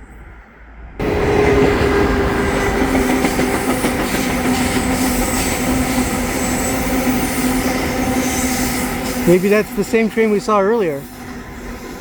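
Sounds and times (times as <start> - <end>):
train wheels clattering on rails: 1.0 - 12.0.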